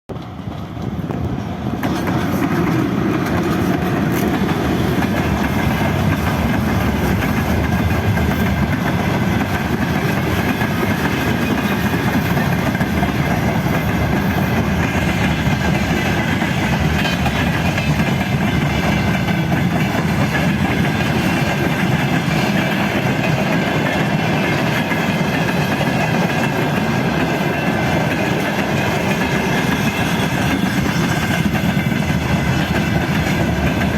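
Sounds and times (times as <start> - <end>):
freight train wheels clattering: 0.1 - 33.9.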